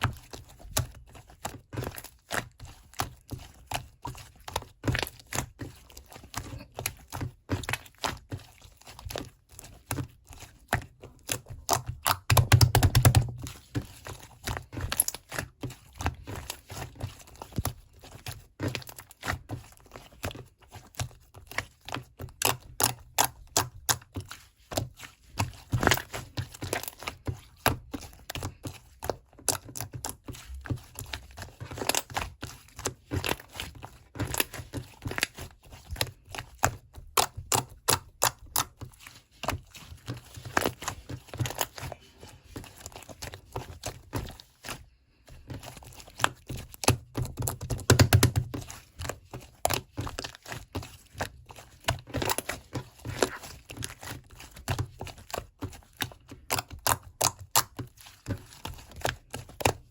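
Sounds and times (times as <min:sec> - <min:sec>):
crinkling and crackling: 0:00.0 - 0:59.9.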